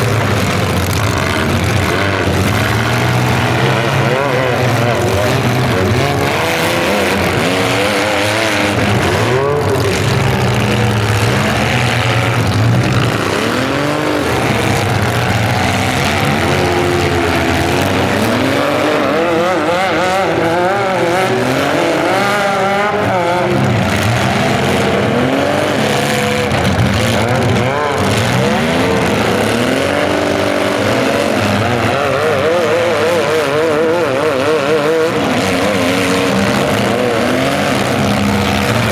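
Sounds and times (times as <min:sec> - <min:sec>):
car engines revving hard: 0:00.0 - 0:38.9.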